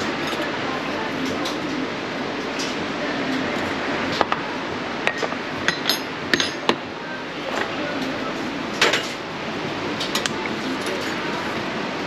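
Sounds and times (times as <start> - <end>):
cafe background hum: 0.0 - 12.0.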